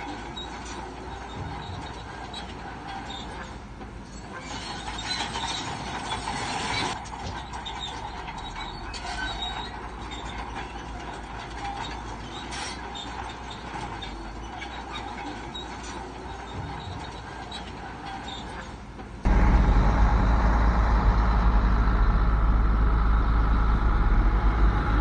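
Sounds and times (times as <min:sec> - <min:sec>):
bulldozer engine running: 0:00.0 - 0:25.0
bulldozer tracks clanking and squealing: 0:00.0 - 0:25.0.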